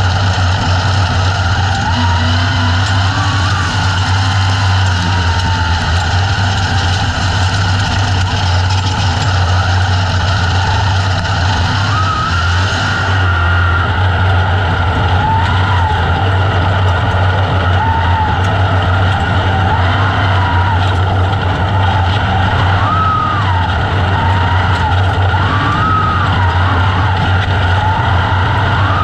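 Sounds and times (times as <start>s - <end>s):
race car engine running hard: 0.0s - 29.0s.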